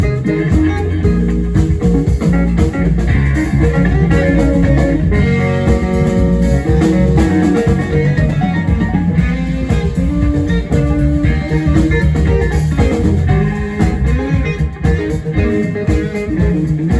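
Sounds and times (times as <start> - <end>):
bass guitar: 0.0 - 16.9
drum kit: 0.0 - 16.9
electric guitar: 0.0 - 16.9.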